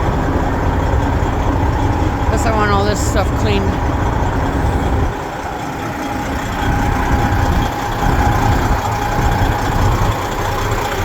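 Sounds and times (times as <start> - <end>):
diesel truck engine idling: 0.0 - 11.0
thin steady whine: 0.0 - 11.0.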